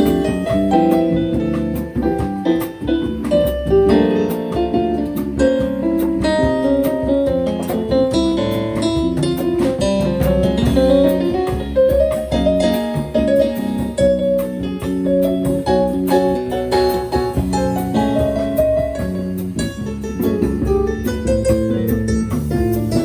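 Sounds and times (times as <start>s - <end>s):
bass: 0.0s - 23.0s
light drums: 0.0s - 23.0s
piano: 0.0s - 23.0s.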